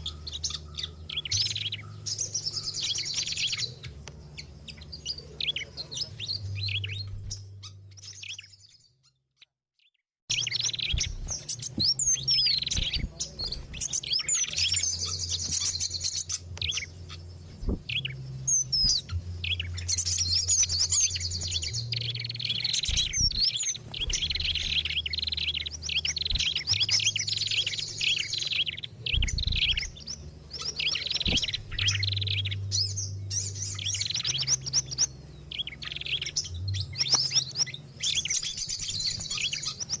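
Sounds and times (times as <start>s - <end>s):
low hum: 0.0s - 8.9s, 10.3s - 40.0s
songbirds chirping and trilling: 0.0s - 40.0s.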